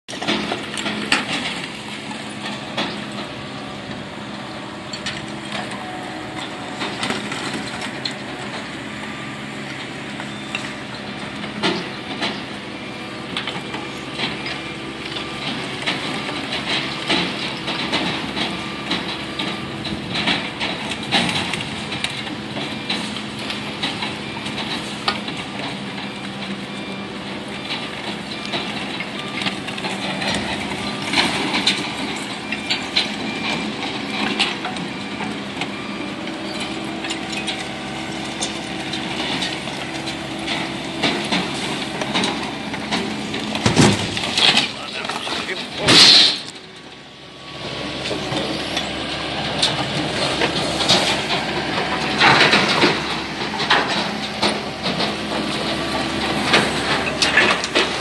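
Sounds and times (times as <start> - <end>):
conveyor machine hum: 0.2 - 58.0.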